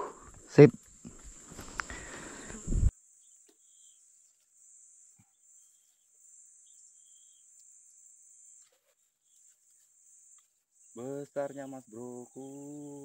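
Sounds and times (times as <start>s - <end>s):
faint chirps: 0.0s - 13.0s
high-pitched insect chorus: 0.0s - 13.0s.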